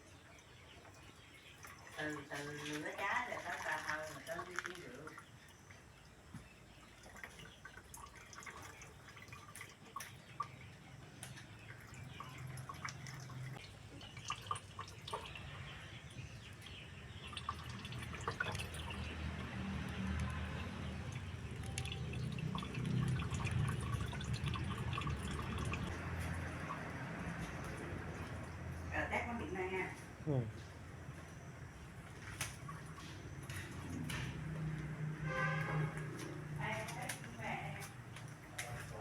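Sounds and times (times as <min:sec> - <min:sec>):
liquid dripping: 0:00.0 - 0:29.0, 0:30.0 - 0:39.0.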